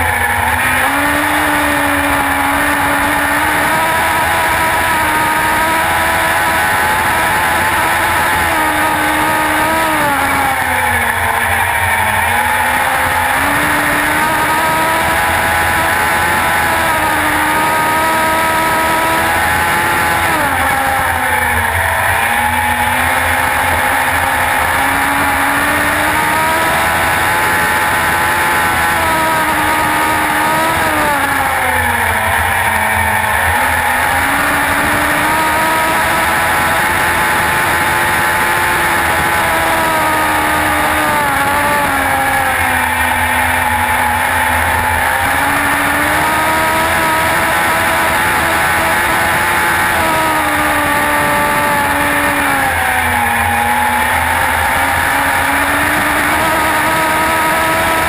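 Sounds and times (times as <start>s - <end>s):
motorcycle engine revving high: 0.0s - 58.0s.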